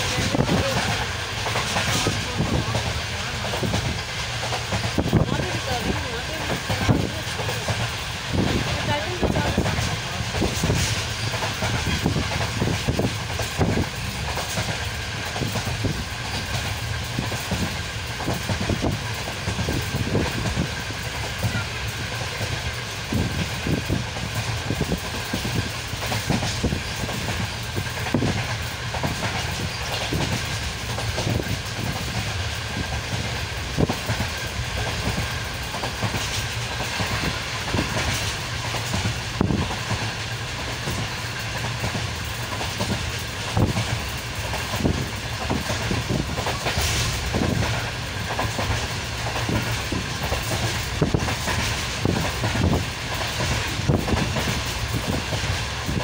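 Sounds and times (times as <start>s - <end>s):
train rumble inside carriage: 0.0s - 56.0s
wheels clacking over rail joints: 0.0s - 56.0s.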